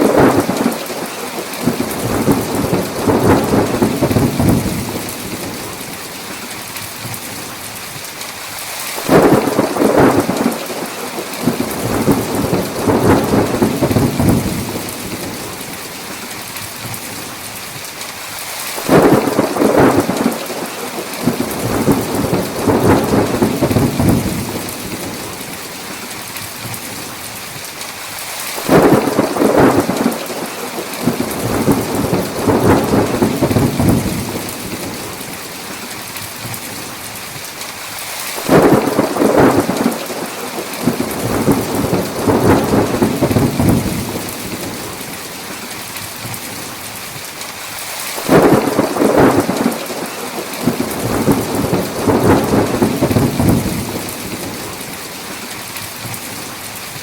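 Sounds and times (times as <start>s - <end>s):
thunder rumbling: 0.0s - 6.4s, 9.0s - 16.2s, 18.8s - 26.0s, 28.6s - 36.9s, 38.4s - 46.7s, 48.2s - 56.2s
heavy rain falling: 0.0s - 57.0s.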